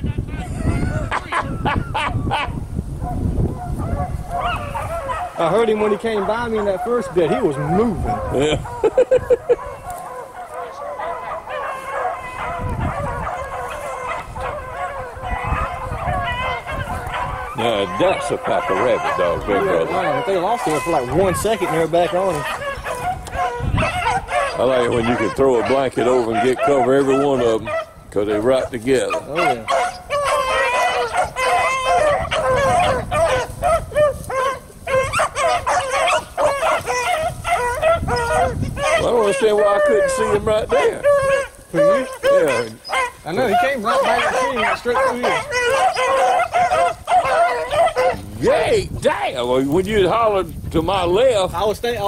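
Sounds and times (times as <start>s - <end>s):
hounds baying: 0.0s - 52.0s.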